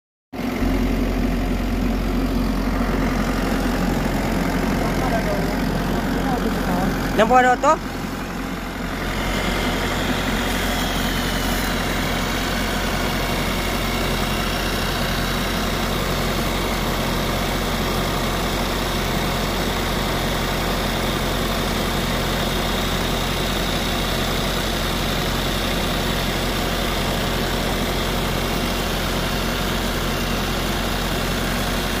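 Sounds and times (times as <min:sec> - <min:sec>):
motor hum: 0:00.4 - 0:32.0.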